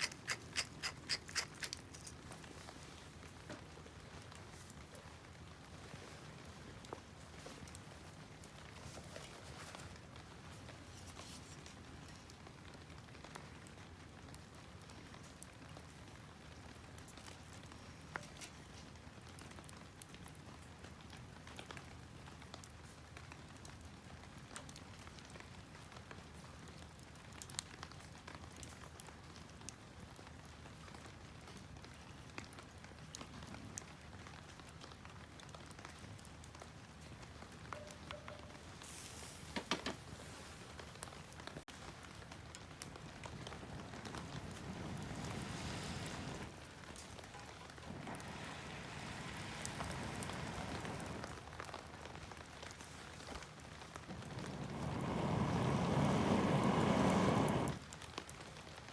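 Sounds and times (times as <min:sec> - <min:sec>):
campfire crackling and popping: 0:00.0 - 0:09.1, 0:11.6 - 0:37.7, 0:40.8 - 0:58.9.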